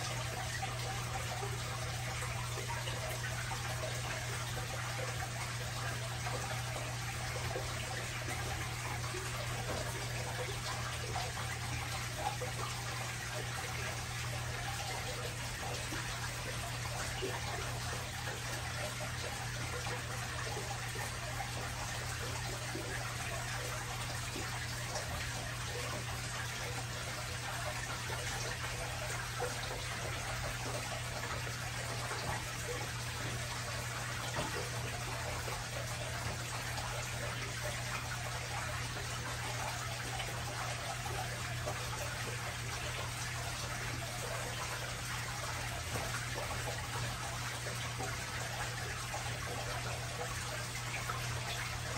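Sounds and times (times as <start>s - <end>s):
trickling water: 0.0s - 51.9s.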